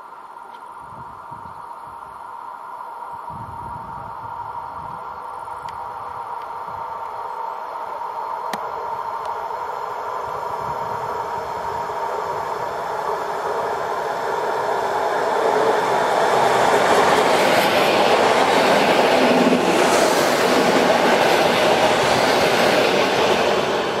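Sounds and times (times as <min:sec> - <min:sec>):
electric train passing: 0:00.7 - 0:24.0
train wheels on rails: 0:03.6 - 0:24.0.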